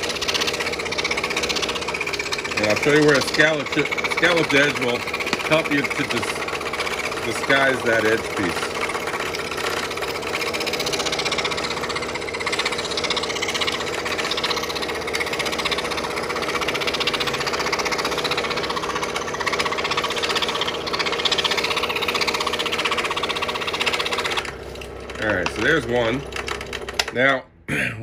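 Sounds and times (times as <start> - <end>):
scroll saw cutting wood: 0.0 - 27.3.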